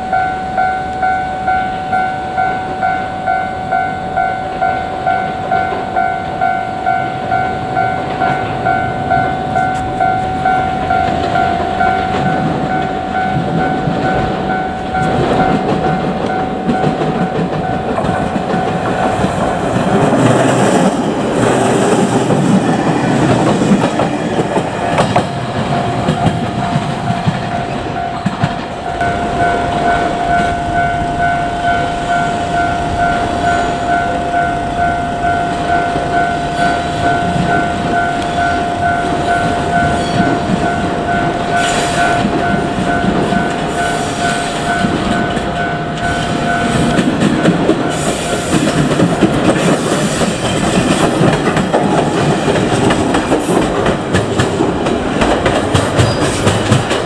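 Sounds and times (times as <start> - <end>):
level-crossing alarm dinging: 0.0 - 55.2
train rumbling over rails: 0.0 - 57.0.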